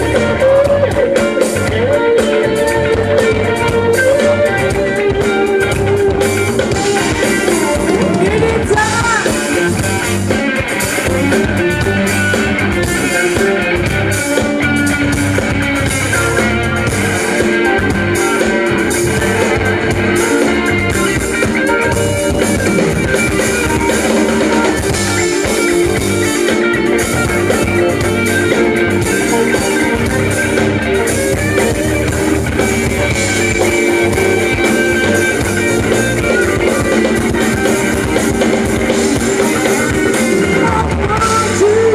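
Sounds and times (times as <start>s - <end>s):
drum kit: 0.0s - 41.9s
electric bass: 0.0s - 41.9s
electric guitar: 0.0s - 41.9s.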